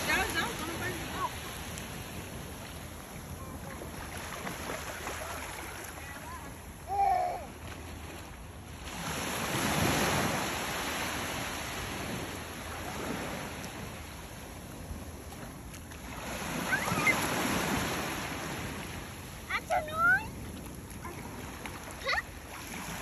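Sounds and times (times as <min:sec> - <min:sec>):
sea waves washing onto beach: 0:00.0 - 0:23.0.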